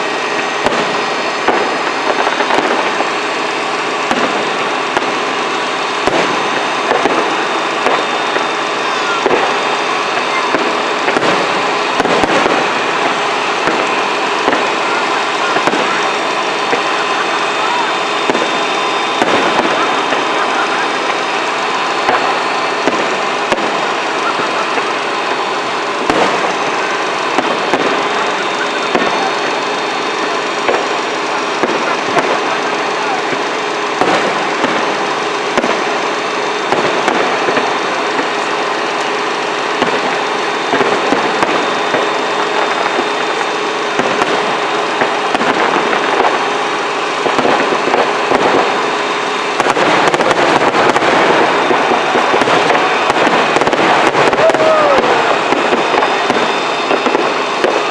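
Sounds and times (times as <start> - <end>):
fireworks crackling: 0.0 - 57.9
fireworks pops and bangs: 0.0 - 57.9.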